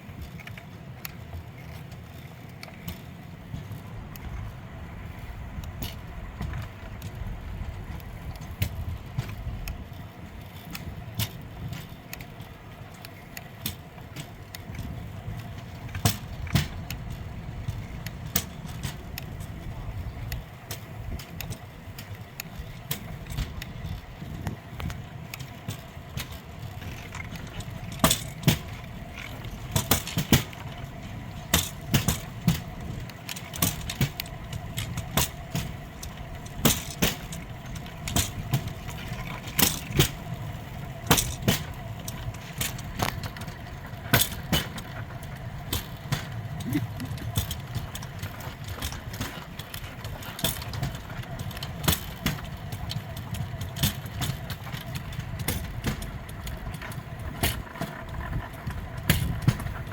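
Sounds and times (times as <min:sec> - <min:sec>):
steel wheels rolling on rails: 0:00.0 - 0:59.9
wheels clacking over rail joints: 0:00.0 - 0:59.9.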